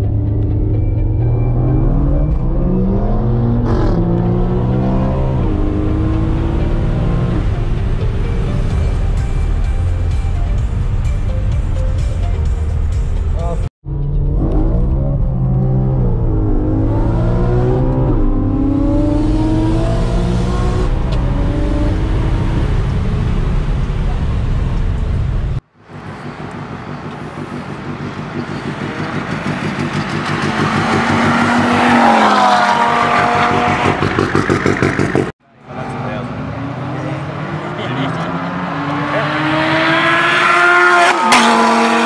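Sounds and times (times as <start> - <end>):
car engine accelerating with upshifts: 0.0 - 9.8, 13.9 - 42.0.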